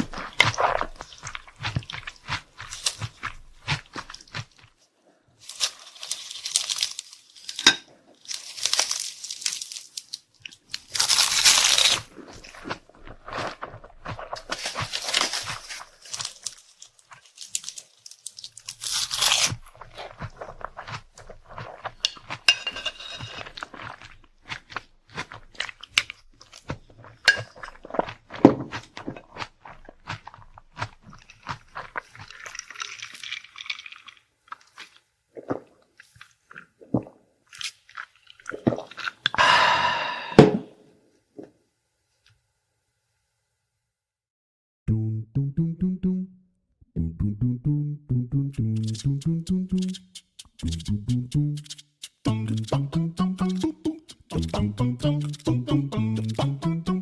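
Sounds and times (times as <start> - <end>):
crunchy food chewed: 0.0 - 39.4, 48.8 - 56.5.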